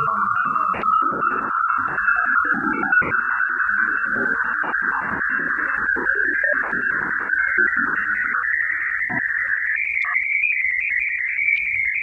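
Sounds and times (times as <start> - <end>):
wavering high tone: 0.0 - 12.0.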